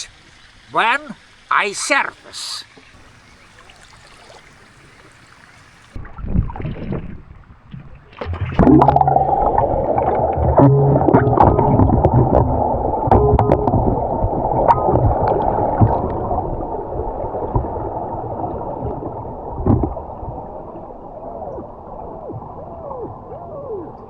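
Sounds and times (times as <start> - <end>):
underwater bubbling from regulators: 2.2 - 24.0.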